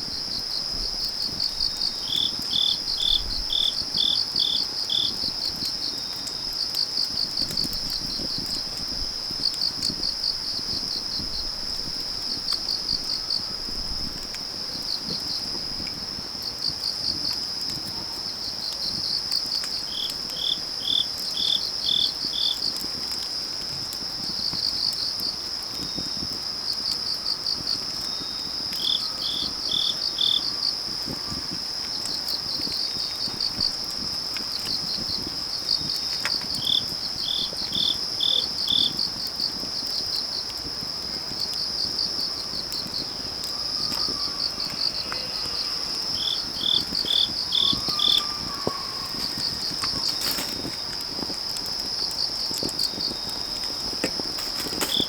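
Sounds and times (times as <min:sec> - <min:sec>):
crickets trilling: 0:00.0 - 0:55.0
insect chirps: 0:00.0 - 0:55.0
wood fire crackling: 0:00.0 - 0:55.0.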